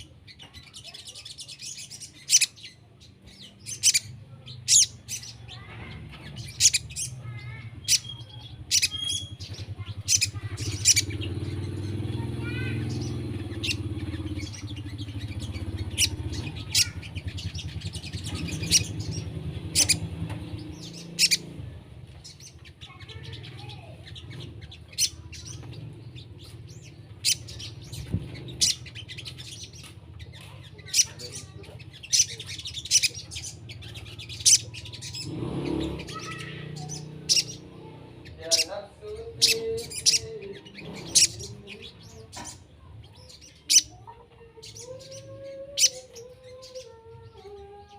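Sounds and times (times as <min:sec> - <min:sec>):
high-pitched bird chirps: 0:00.0 - 0:47.9.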